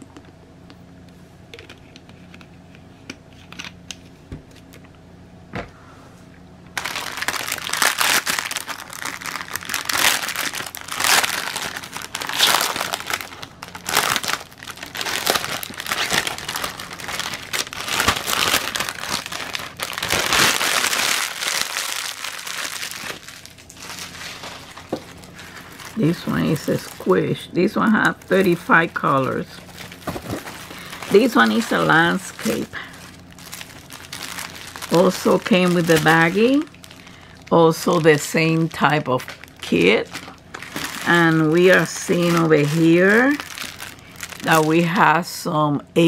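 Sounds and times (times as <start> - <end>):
plastic sleeve crinkling: 6.8 - 45.2.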